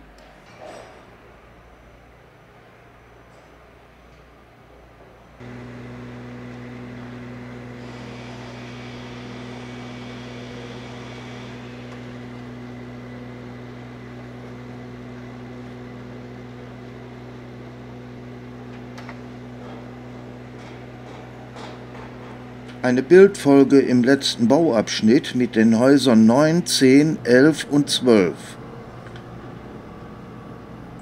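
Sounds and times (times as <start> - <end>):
machinery humming: 5.4 - 31.0.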